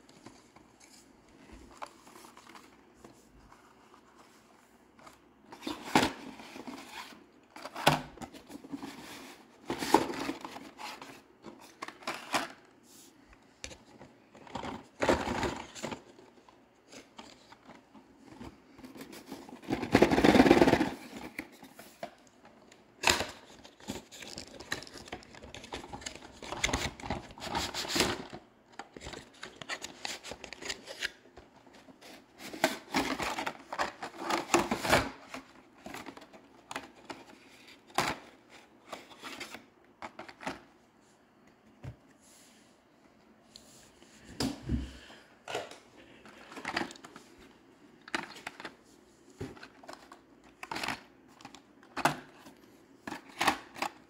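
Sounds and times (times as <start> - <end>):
cardboard and plastic rustling: 0.0 - 42.2, 43.1 - 54.0.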